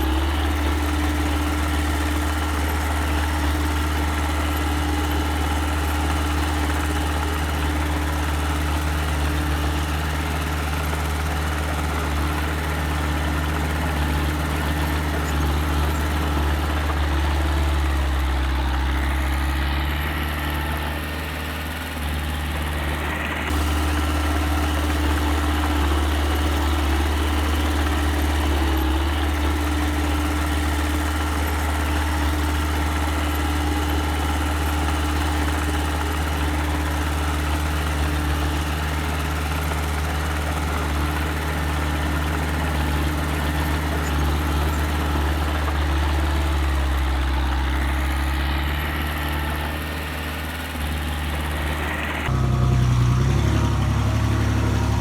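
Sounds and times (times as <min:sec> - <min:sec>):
earthmoving machine engine running: 0:00.0 - 0:55.0.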